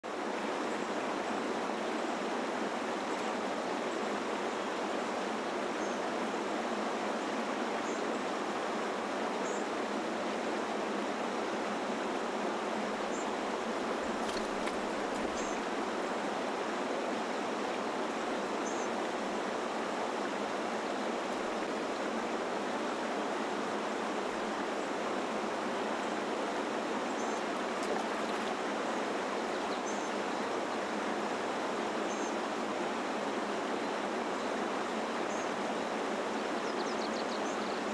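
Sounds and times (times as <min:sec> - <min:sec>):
mountain stream rushing: 0:00.1 - 0:37.9.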